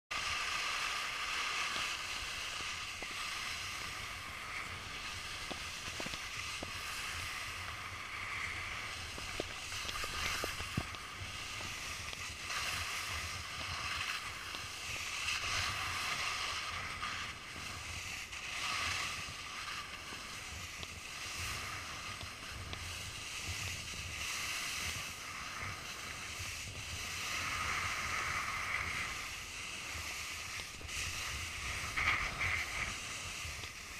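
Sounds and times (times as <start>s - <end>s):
snowboard scraping on snow: 0.1s - 33.9s
wind rushing over microphone: 0.1s - 33.9s.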